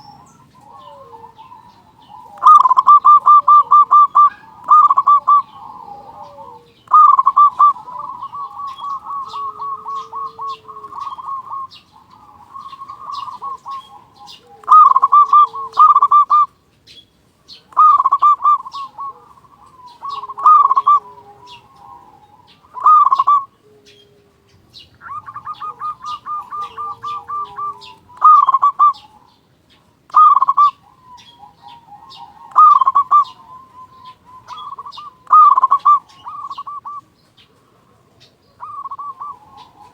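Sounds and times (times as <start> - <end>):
high bird chirps: 0.0 - 24.1, 24.7 - 37.5, 38.5 - 39.9
dove cooing: 0.0 - 39.9.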